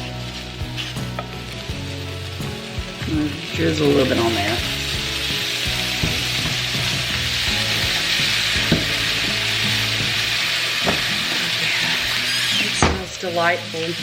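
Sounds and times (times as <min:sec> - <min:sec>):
beef sizzling in oil: 0:00.0 - 0:14.0.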